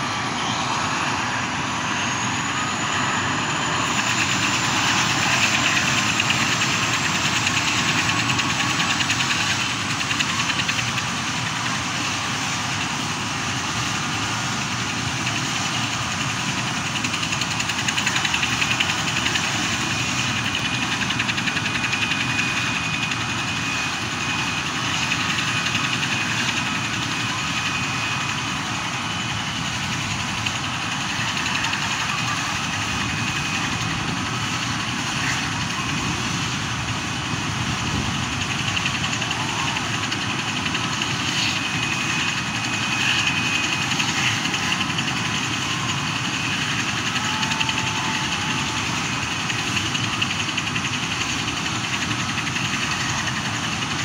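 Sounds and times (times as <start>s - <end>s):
helicopter turbine rush: 0.0s - 54.0s.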